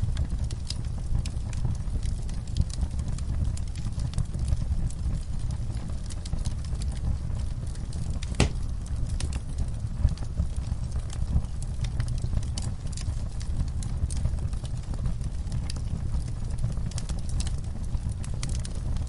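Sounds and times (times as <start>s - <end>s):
fire crackling and popping: 0.0s - 19.0s
fire flames roaring: 0.0s - 19.0s.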